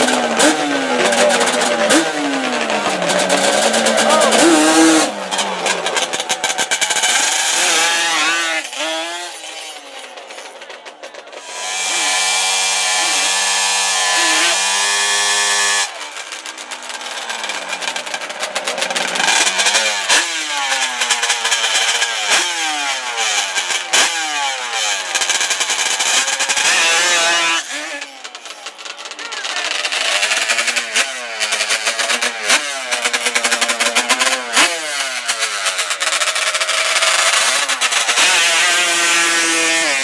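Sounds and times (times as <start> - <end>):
atv engines revving: 0.0 - 40.0.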